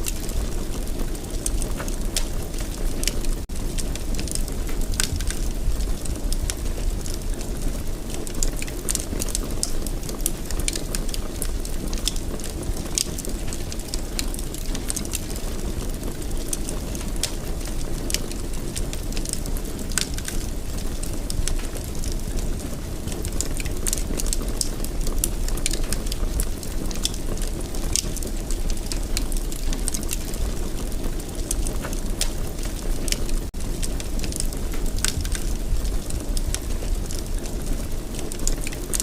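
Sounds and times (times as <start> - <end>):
fire rumbling: 0.0 - 39.0
wood fire crackling and popping: 0.0 - 39.0.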